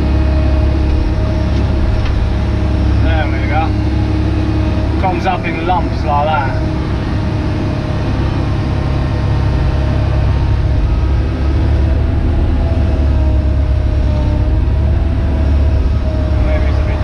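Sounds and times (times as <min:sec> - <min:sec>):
excavator engine drone: 0:00.0 - 0:17.0.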